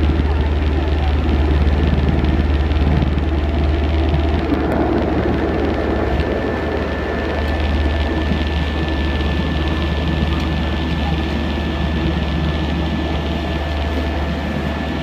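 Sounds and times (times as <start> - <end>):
high engine whine: 0.0 - 15.0
turboprop engines droning: 0.0 - 15.0.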